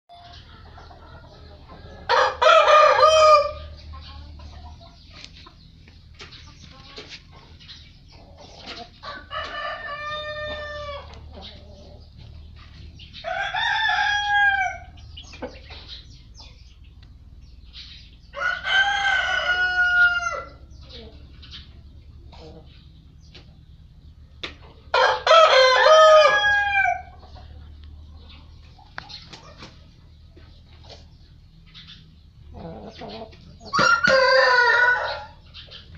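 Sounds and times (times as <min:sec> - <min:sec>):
roosters crowing: 0:00.1 - 0:05.8, 0:07.3 - 0:16.2, 0:17.4 - 0:27.8, 0:30.8 - 0:35.9
chickens clucking: 0:00.1 - 0:35.9.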